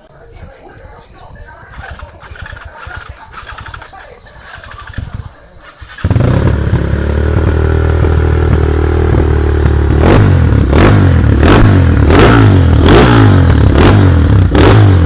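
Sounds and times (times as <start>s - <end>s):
motorcycle engine idling: 1.7s - 15.0s
motorcycle engine revving: 1.7s - 15.0s.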